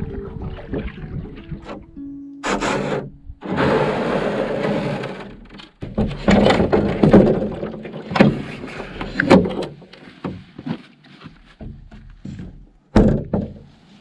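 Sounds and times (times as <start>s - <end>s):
knocks and scrapes: 2.4s - 14.0s.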